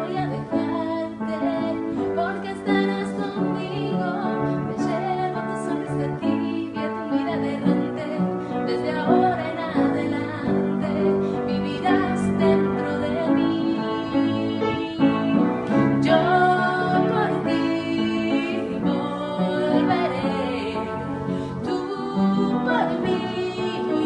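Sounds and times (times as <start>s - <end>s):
piano: 0.0s - 24.0s
woman singing: 0.0s - 24.0s.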